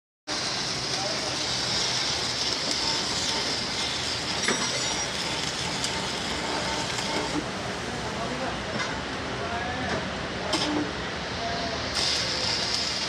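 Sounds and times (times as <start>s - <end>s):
steady mechanical noise: 0.3s - 13.0s.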